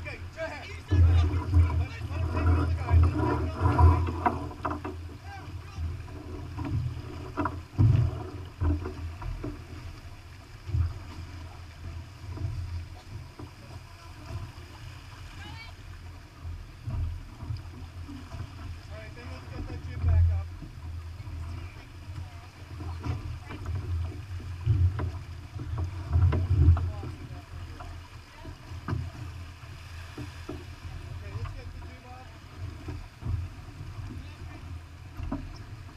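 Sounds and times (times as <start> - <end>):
hiss of wind and water: 0.0 - 35.9.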